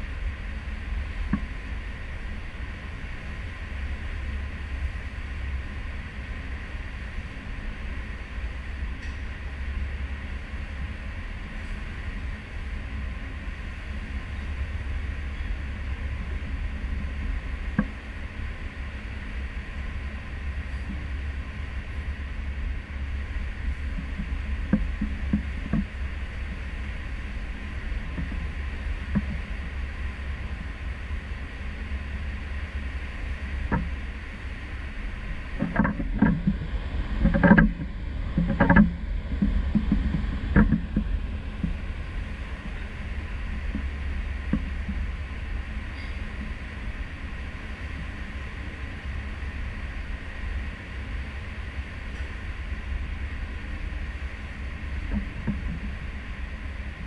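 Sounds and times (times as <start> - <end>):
ship engine rumble: 0.0 - 57.0.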